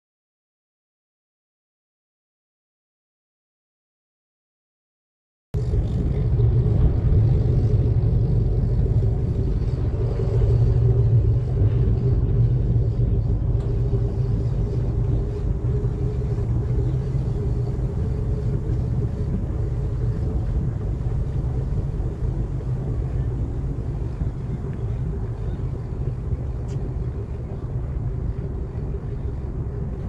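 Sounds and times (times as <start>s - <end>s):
boat engines idling: 5.6s - 30.0s.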